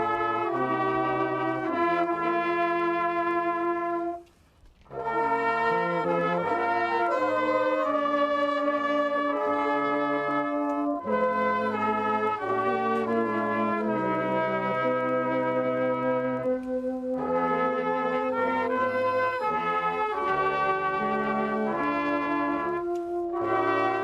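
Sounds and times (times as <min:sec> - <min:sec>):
brass band playing hymn: 0:00.0 - 0:24.0.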